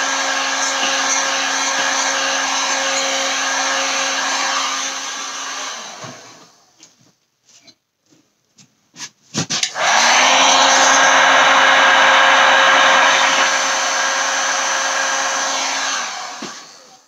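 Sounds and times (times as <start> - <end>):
heat gun blowing whir: 0.0 - 6.7, 9.7 - 17.0.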